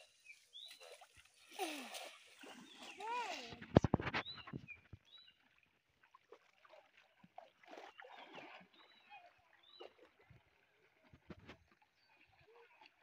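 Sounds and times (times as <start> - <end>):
water sloshing from wading: 0.0 - 13.0.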